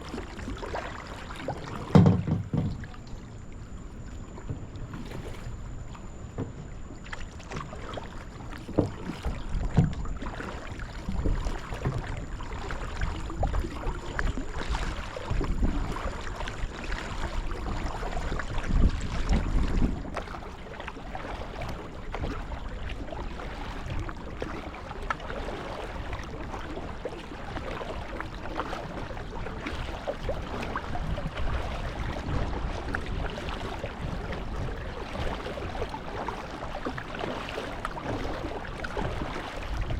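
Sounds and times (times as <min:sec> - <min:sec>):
paddle splashes: 0:00.0 - 0:39.9
water lapping around kayak: 0:00.0 - 0:39.9.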